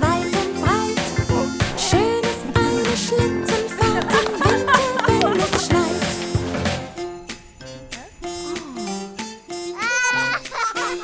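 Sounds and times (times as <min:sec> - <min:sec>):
children's song instrumental: 0:00.0 - 0:11.0.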